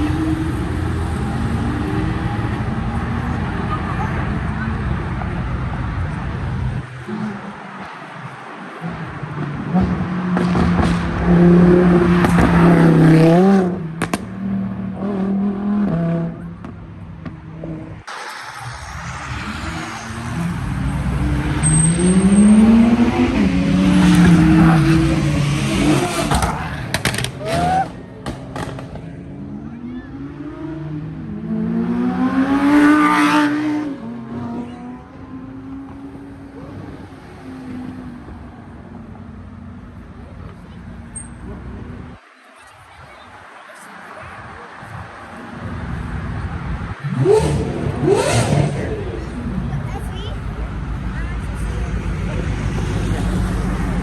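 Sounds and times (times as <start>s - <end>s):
sports car engine and exhaust: 0.0s - 54.0s.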